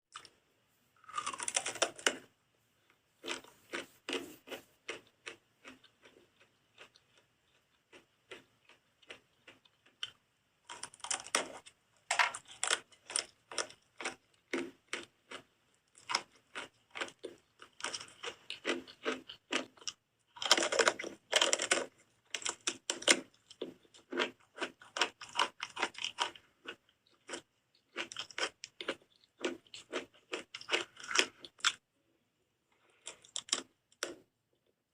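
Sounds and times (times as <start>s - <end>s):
biting and chewing soap: 0.1s - 0.4s, 1.0s - 31.9s, 32.7s - 34.9s.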